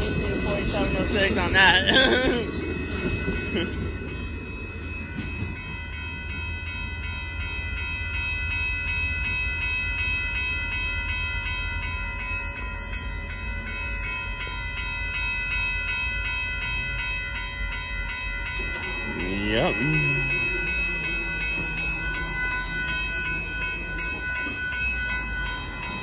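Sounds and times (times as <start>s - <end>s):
railroad crossing bell ringing: 0.0s - 26.0s
train low rumble: 0.0s - 26.0s.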